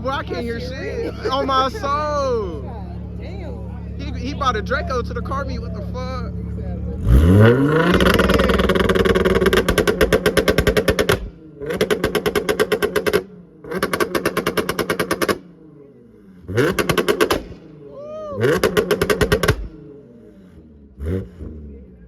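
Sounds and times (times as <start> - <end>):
car exhaust popping: 0.0 - 15.7, 16.3 - 21.7
revving car engine: 0.0 - 22.0.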